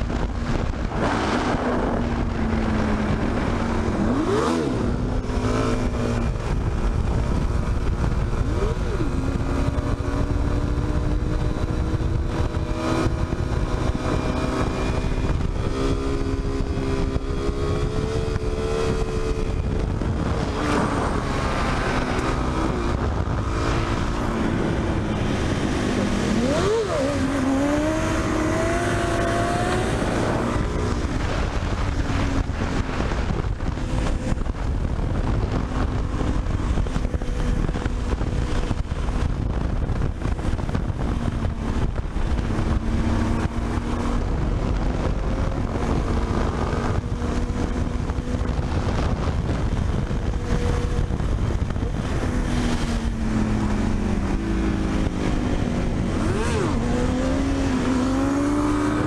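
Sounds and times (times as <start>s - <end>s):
motorcycle engines running: 0.0s - 59.0s
wind noise on microphone: 0.0s - 59.0s.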